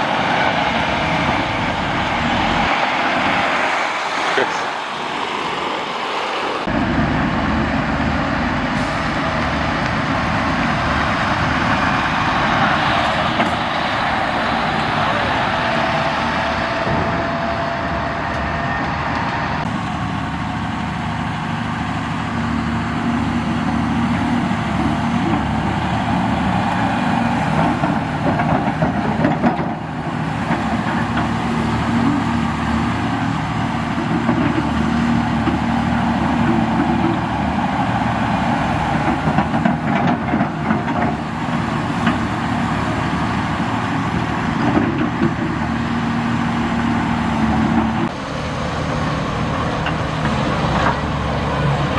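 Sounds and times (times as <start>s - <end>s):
heavy diesel engines running: 0.0s - 51.9s.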